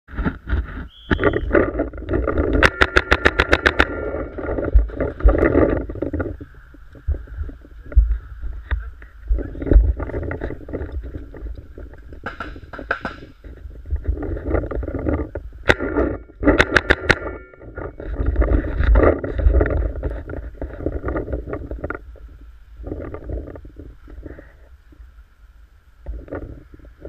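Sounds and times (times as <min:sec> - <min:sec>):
rustling movement noise: 0:00.1 - 0:27.0
wind rumble on microphone: 0:00.1 - 0:27.0.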